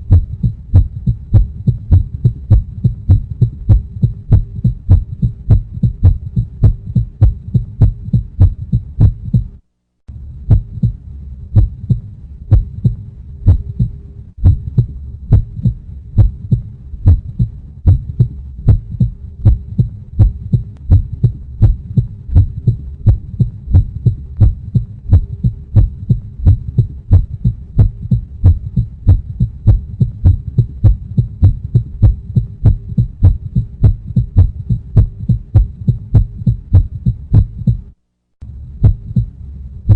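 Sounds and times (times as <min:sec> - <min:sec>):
heartbeat thumping: 0:00.0 - 0:09.6, 0:10.4 - 0:37.9, 0:38.8 - 0:39.9
faint steady hum: 0:00.0 - 0:39.9.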